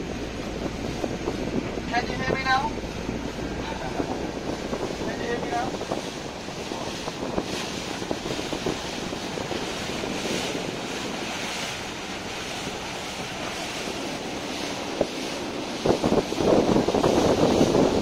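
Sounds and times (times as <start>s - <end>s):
water rushing along boat: 0.0s - 18.0s
wind buffeting microphone: 0.0s - 18.0s.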